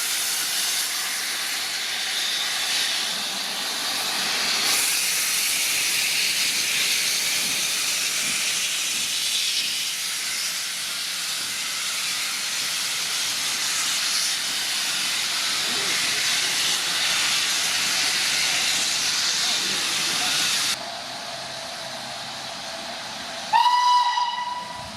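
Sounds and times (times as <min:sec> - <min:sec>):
steam locomotive hissing: 0:00.0 - 0:24.9.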